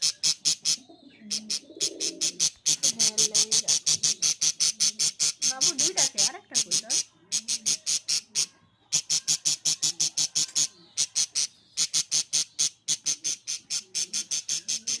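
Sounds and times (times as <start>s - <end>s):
small bird chirping rapidly: 0.0s - 15.0s.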